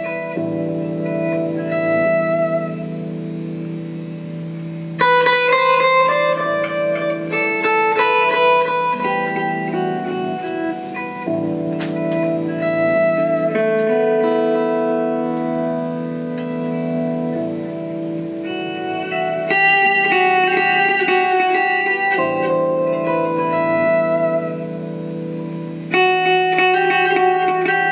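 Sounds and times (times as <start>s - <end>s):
electric guitar chords: 0.0s - 27.9s
quickly plucked guitar notes: 0.0s - 27.9s.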